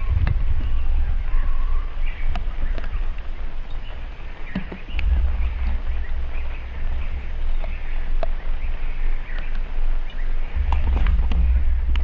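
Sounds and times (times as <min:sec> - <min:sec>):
faint distant birdsong: 0:00.0 - 0:12.0
wind buffeting microphone: 0:00.0 - 0:12.0.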